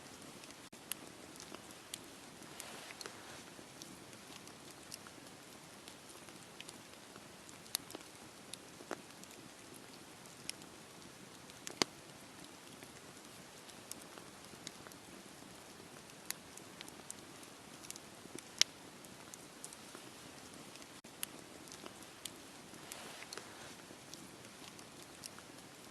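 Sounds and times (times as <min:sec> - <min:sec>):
soft fire hiss: 0:00.0 - 0:25.9
wood fire crackling and popping: 0:00.1 - 0:25.9.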